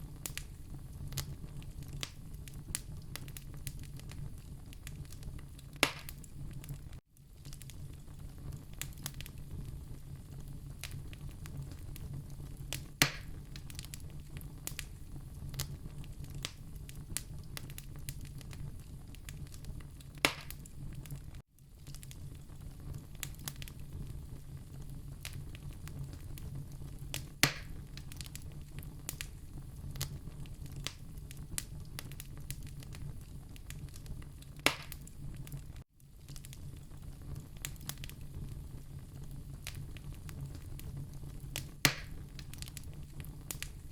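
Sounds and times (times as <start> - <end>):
sharp fire pops: 0.0 - 43.9
wood fire crackling: 0.0 - 43.9.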